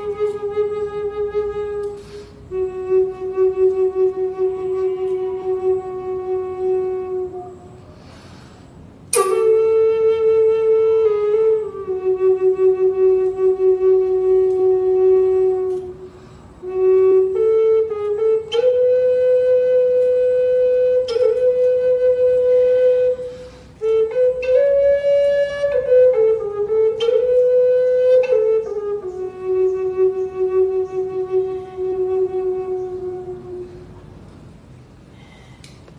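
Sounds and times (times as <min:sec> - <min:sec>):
flute playing slow melody: 0:00.0 - 0:34.4.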